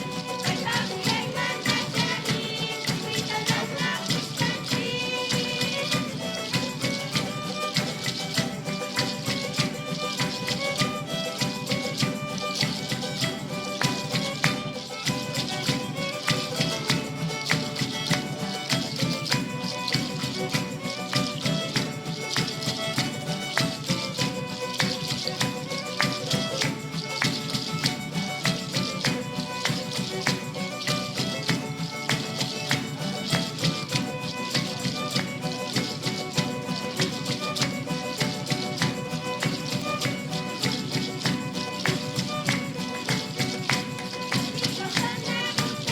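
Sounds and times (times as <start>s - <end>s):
folk band melody: 0.0s - 45.9s
percussion quick beat: 0.0s - 45.9s.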